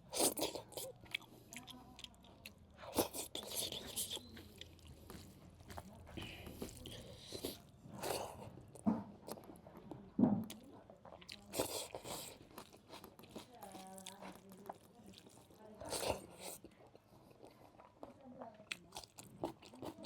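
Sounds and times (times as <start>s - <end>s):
person chewing and crunching food: 0.0s - 20.0s.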